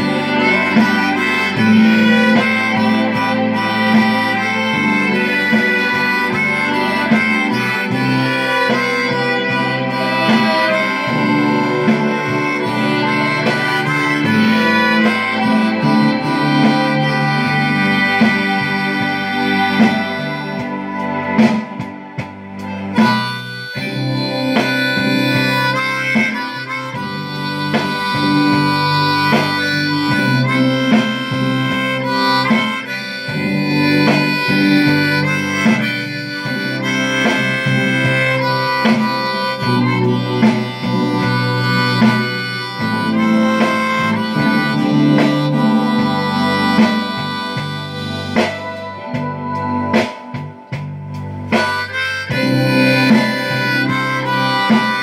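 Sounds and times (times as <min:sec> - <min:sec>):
harmonica melody: 0:00.0 - 0:55.0.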